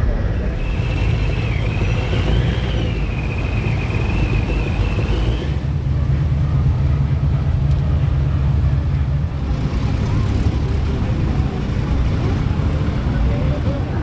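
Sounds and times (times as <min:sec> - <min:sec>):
cars cruising by: 0:00.0 - 0:14.0.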